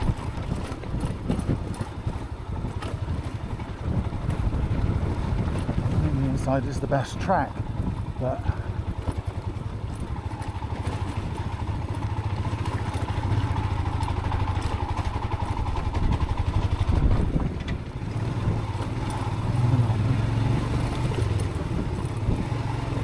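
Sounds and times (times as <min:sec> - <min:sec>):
motorcycle engine under load: 0:00.0 - 0:23.0.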